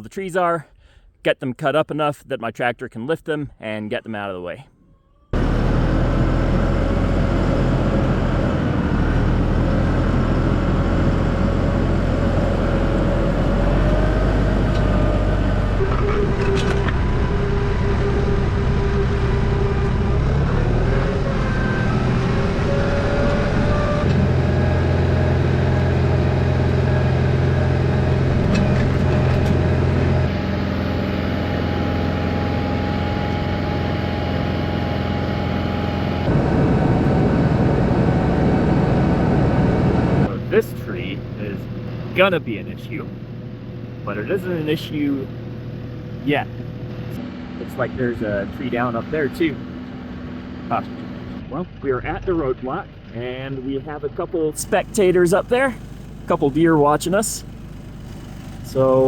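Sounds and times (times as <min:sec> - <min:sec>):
tractor engine running: 0:05.3 - 0:51.6, 0:52.8 - 0:59.0.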